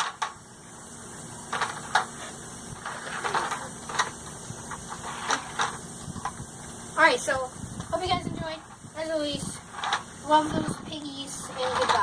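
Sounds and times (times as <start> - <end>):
handling noise: 1.3 - 12.0.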